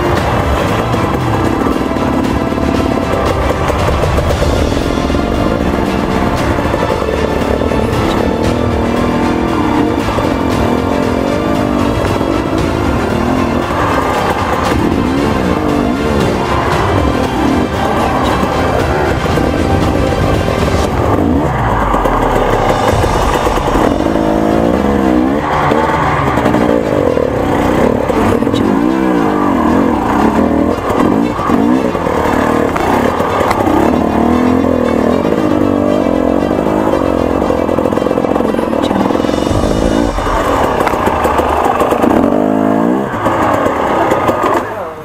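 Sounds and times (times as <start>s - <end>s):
dirt bike engines revving: 0.0s - 45.0s
music: 0.0s - 45.0s.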